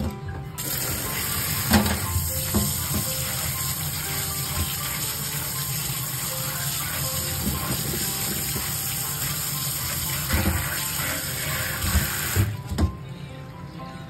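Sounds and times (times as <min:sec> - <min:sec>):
tap water running: 0:00.6 - 0:12.9.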